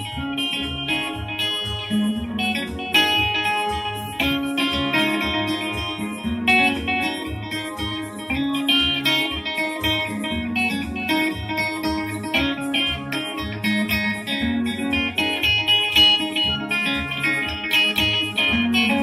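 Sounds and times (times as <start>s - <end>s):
electric guitar melody: 0.0s - 19.0s
electric keyboard: 0.0s - 19.0s
steady beat: 0.0s - 19.0s.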